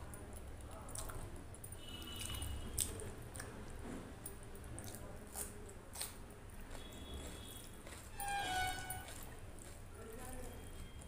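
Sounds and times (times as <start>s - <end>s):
chewing with smacks: 0.0s - 8.2s, 9.0s - 11.0s
wet squishing of rice by hand: 0.0s - 11.0s.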